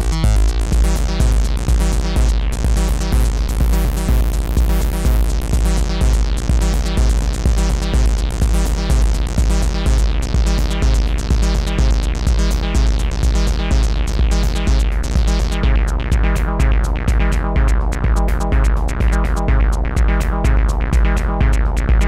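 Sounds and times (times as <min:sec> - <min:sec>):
synthesizer techno bassline: 0:00.0 - 0:22.0.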